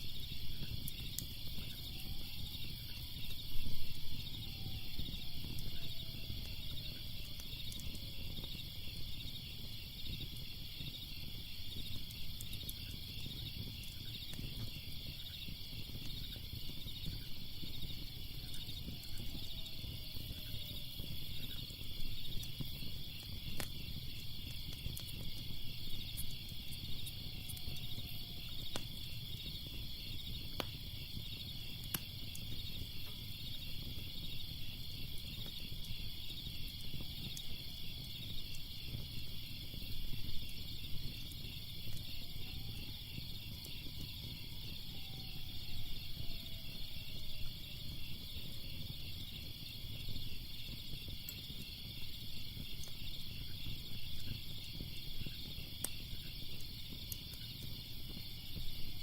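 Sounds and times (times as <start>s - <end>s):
crickets chirping: 0.0s - 59.0s
wood fire crackling: 0.0s - 59.0s.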